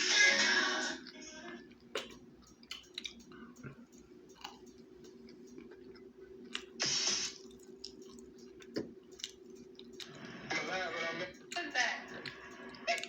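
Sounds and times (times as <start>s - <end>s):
faint steady hum: 0.0s - 13.0s
person chewing: 1.0s - 10.4s, 11.3s - 13.0s.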